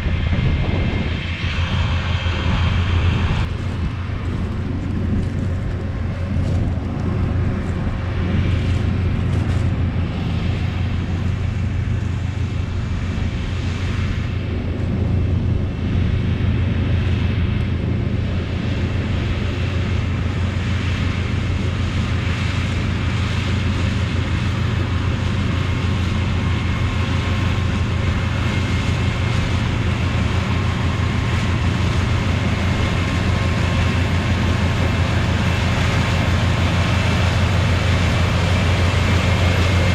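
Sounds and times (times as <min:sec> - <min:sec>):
corn picker engine drone: 0:00.0 - 0:39.9.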